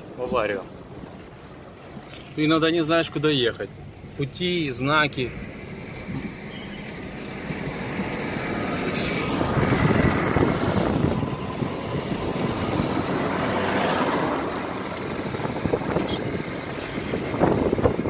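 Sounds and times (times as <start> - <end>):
car interior road rumble: 0.0 - 18.0.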